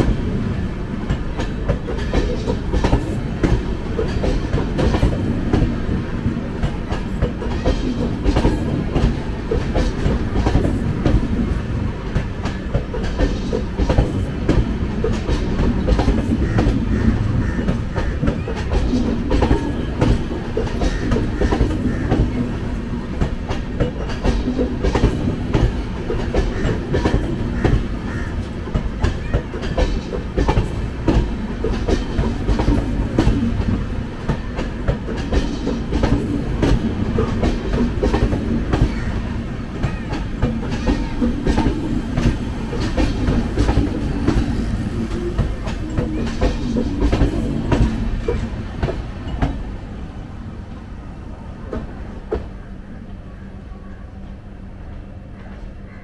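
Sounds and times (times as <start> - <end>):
train wheels rumbling on rails: 0.0 - 56.0
clickety-clack knocks: 1.0 - 5.8, 6.6 - 11.5, 12.1 - 39.1, 39.7 - 49.6.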